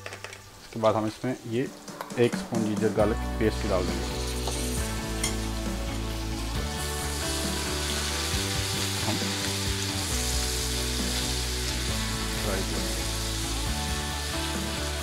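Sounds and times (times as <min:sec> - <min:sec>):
onions sizzling in a pan: 0:00.1 - 0:15.0.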